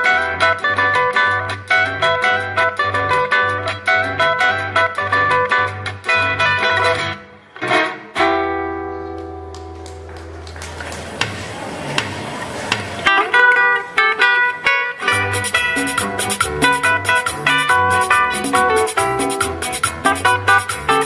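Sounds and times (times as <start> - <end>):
guitar through loudspeaker: 0.0 - 21.0.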